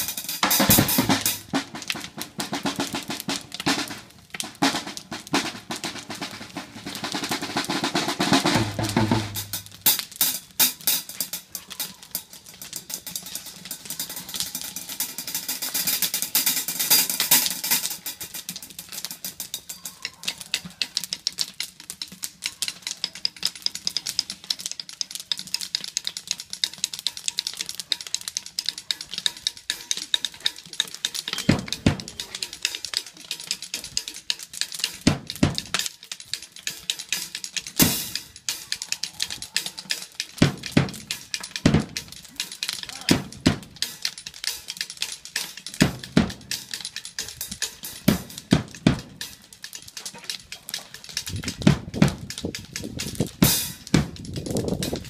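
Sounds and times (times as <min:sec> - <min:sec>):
fast hard drumming with cymbals: 0:00.0 - 0:21.2, 0:28.7 - 0:49.5, 0:50.1 - 0:55.0.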